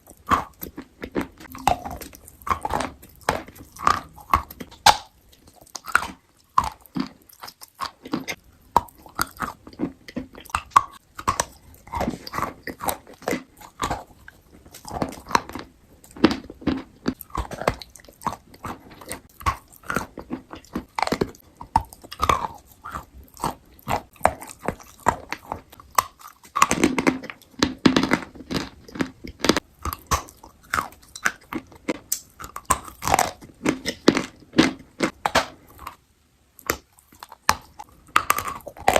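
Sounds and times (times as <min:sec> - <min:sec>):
crunchy food being chewed: 0:00.0 - 0:36.0, 0:36.6 - 0:38.9.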